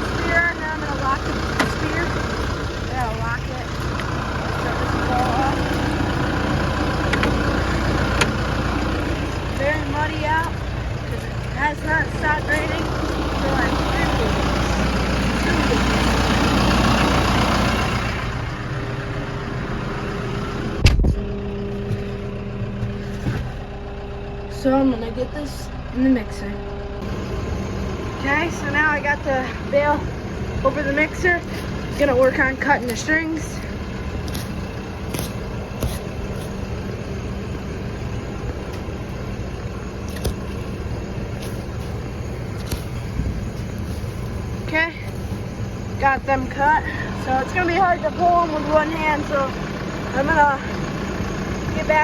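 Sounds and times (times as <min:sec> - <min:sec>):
tractor engine idling: 0:00.0 - 0:52.0.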